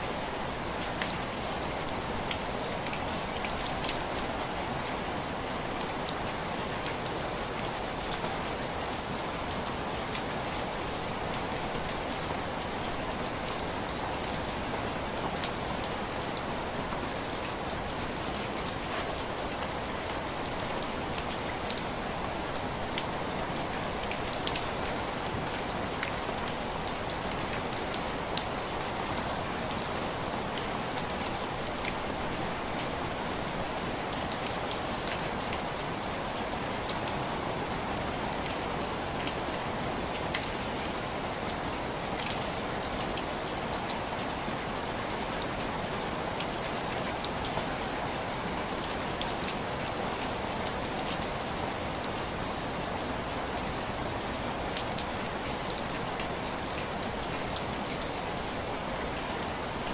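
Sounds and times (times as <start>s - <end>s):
rain on window glass: 0.1s - 59.9s.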